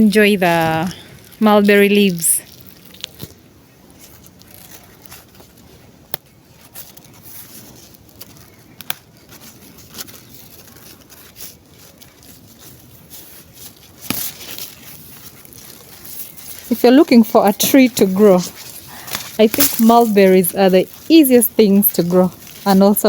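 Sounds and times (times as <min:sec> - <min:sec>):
leaves rustling and crackling: 0:00.1 - 0:23.0.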